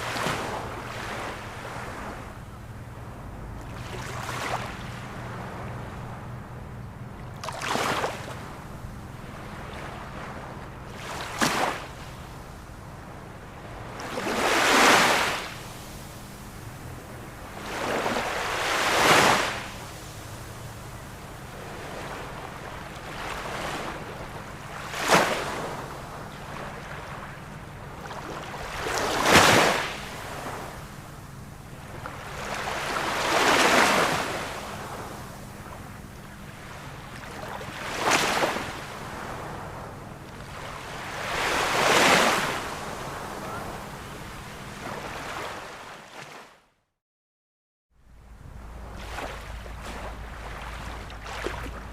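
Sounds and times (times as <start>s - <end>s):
ocean waves breaking: 0.0s - 46.6s, 48.2s - 51.9s.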